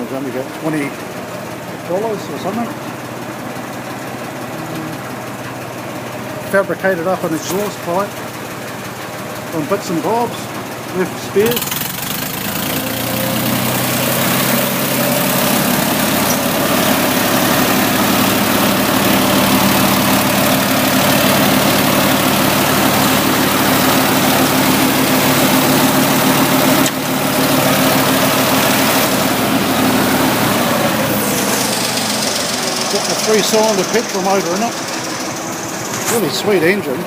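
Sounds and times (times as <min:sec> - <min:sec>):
tractor engine fast idle: 0:00.0 - 0:37.0.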